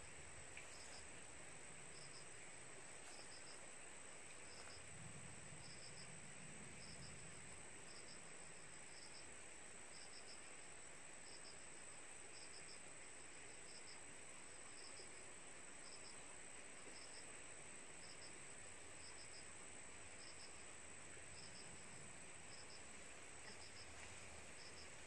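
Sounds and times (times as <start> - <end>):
faint cricket chirping: 0.0 - 25.0.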